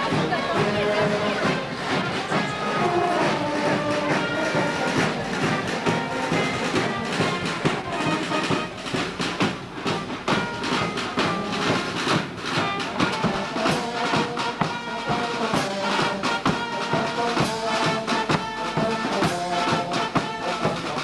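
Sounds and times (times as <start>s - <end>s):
brass band playing: 0.0s - 21.0s
drum beat: 0.0s - 21.0s.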